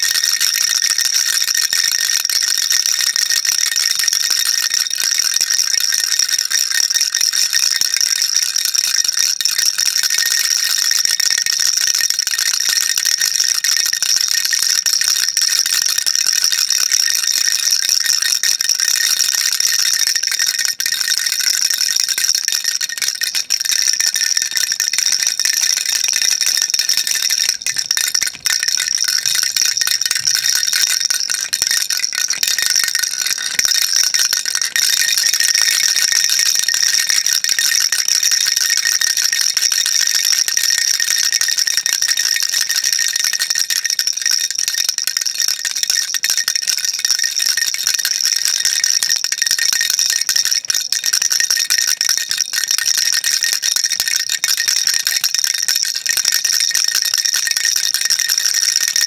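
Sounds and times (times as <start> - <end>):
baby rattle shaking: 0.0 - 49.6, 50.3 - 55.3.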